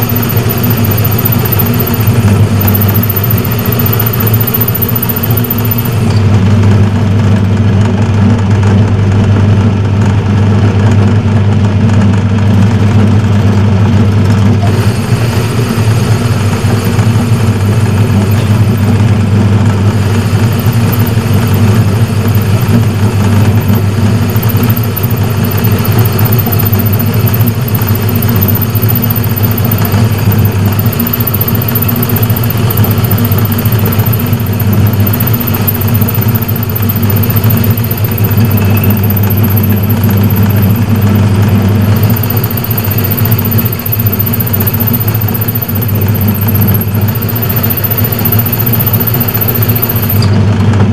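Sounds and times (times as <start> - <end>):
metal lathe motor humming: 0.0 - 50.9.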